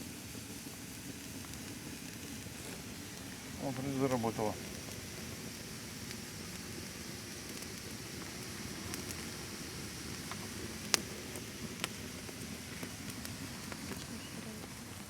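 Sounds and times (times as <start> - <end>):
sharp fire pops: 0.0 - 14.8
bonfire hissing and crackling: 0.0 - 15.0.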